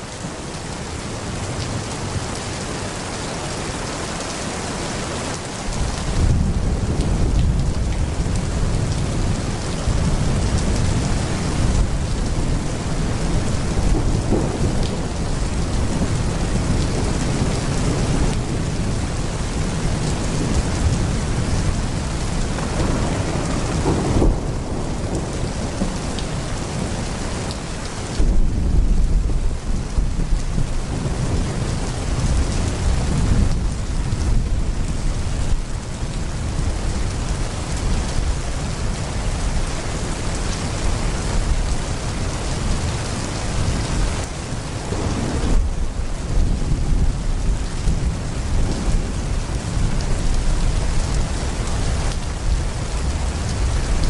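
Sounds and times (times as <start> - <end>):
heavy rain pouring: 0.0 - 54.0
thunder rumbling: 5.7 - 54.0.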